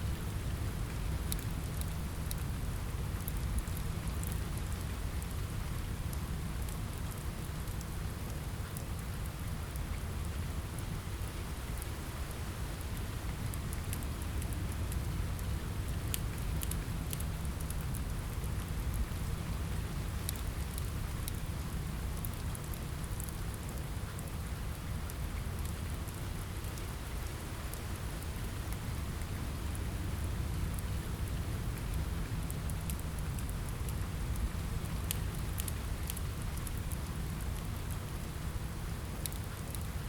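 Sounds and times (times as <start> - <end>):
rain on a window: 0.0 - 40.0
wood fire crackling: 0.1 - 40.0.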